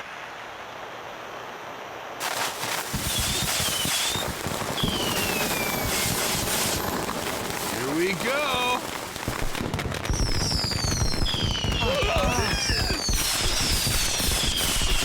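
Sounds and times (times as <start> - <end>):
fireworks crackling pops: 2.2 - 15.0
fireworks hissing: 2.2 - 15.0
fireworks whistles: 2.2 - 15.0.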